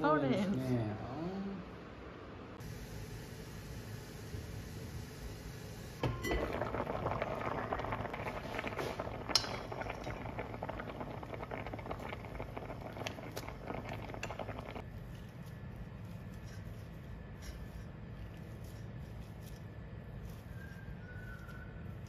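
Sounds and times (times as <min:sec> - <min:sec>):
water boiling and bubbling: 0:02.6 - 0:22.0.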